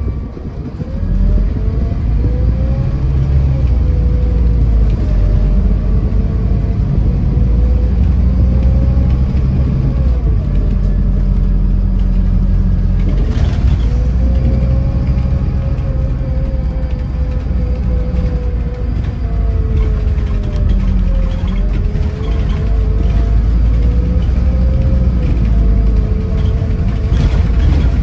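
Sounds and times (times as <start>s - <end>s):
coach engine under load: 0.0s - 28.0s
drivetrain whine: 0.0s - 28.0s.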